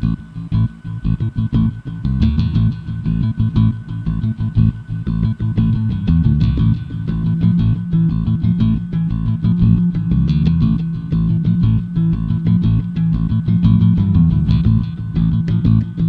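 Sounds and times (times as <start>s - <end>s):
plucked guitar and bass music: 0.0s - 16.0s.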